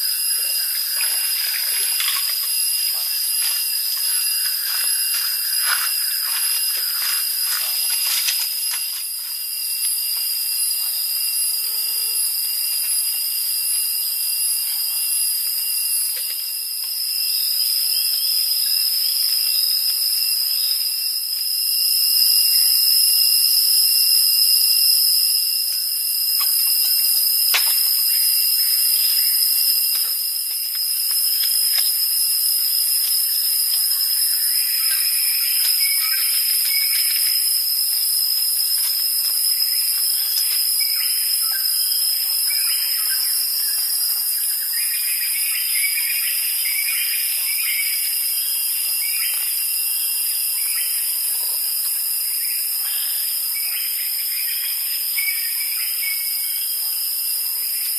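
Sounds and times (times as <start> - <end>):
forest insects trilling: 0.0 - 57.9.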